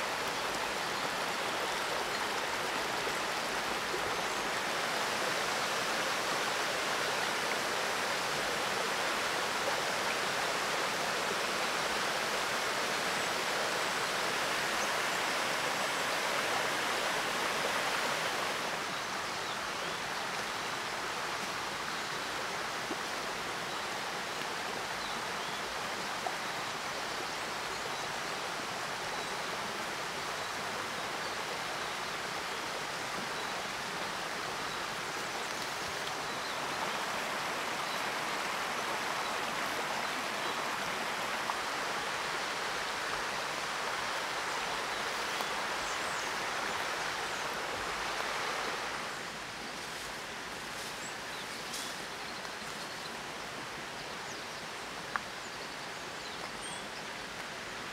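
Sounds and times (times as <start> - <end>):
forest stream rushing: 0.0 - 57.9.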